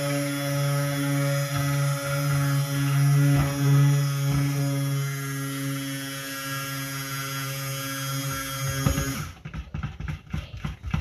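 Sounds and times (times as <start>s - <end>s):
stick blender motor hum: 0.0s - 11.0s.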